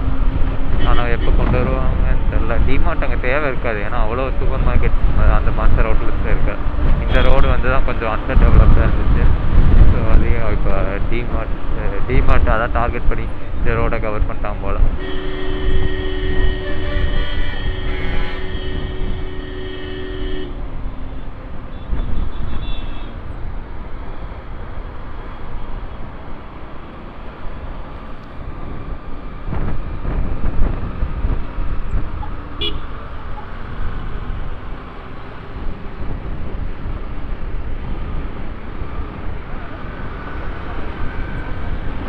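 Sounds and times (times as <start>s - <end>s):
wind rushing over microphone: 0.0s - 19.6s, 20.5s - 42.0s
passing traffic: 0.0s - 42.0s.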